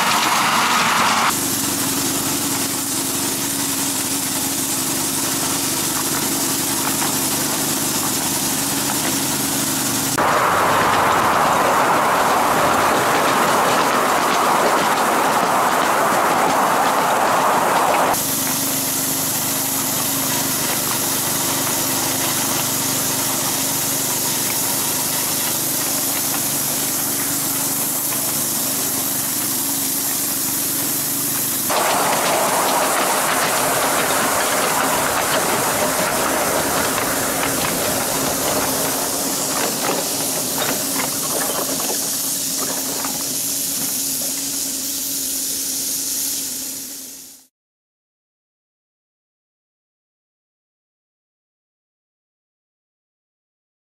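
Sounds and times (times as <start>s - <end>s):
miniature steam locomotive hissing: 0.0s - 47.5s.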